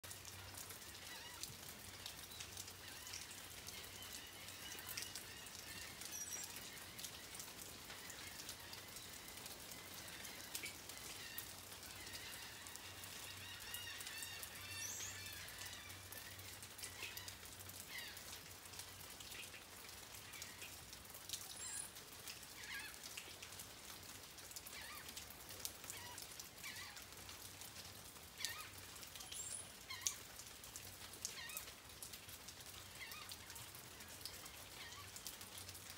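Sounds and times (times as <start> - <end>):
raindrops ticking: 0.0 - 35.9
steady rain: 0.0 - 35.9.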